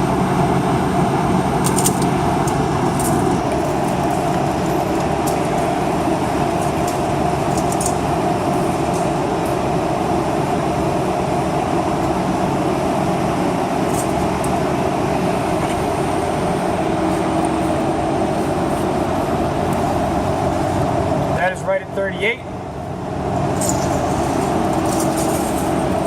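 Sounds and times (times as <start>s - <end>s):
mechanical drone with hum: 0.0s - 26.0s.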